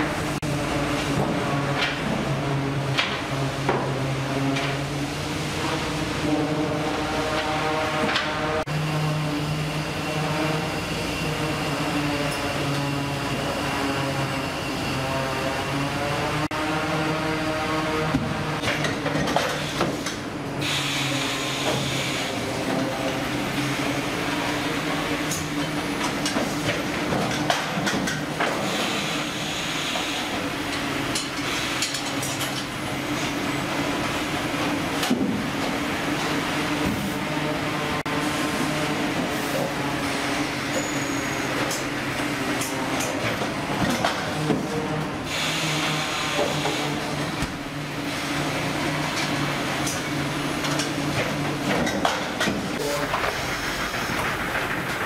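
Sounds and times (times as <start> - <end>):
fish-processing machinery running: 0.0 - 55.0.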